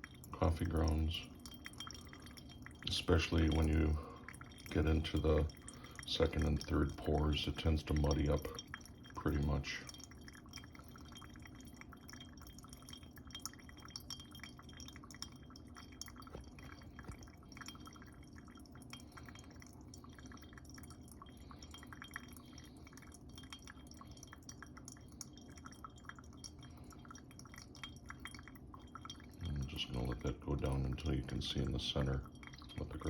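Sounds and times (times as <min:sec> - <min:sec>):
coffee dripping: 0:00.0 - 0:33.0
low steady hum: 0:00.0 - 0:33.0.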